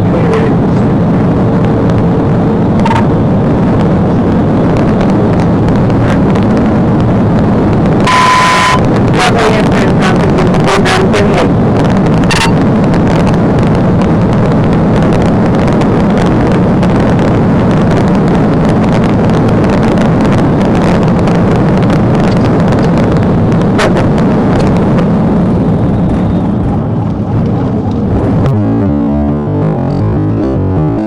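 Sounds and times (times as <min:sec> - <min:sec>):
car engine running: 0:00.0 - 0:31.0
road and wind noise: 0:00.0 - 0:31.0.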